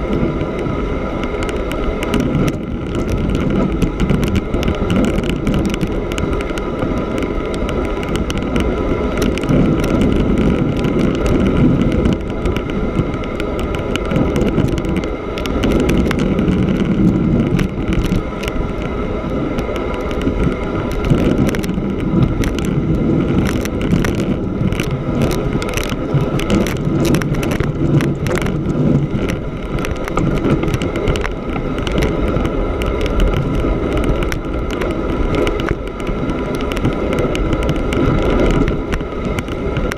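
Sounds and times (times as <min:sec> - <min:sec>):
bicycle rolling over snow: 0:00.0 - 0:39.9
small clicks and rattles: 0:00.0 - 0:39.9.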